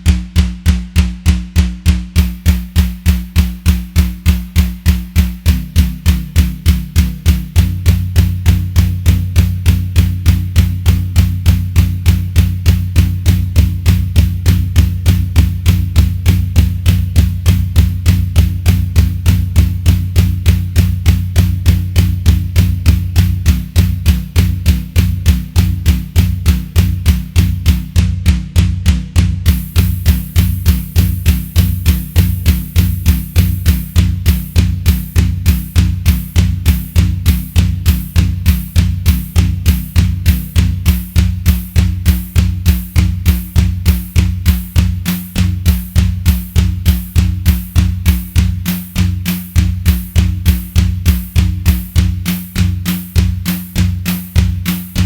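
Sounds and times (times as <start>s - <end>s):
deep bass tone: 0.0s - 52.0s
electronic drum hits: 0.0s - 55.0s.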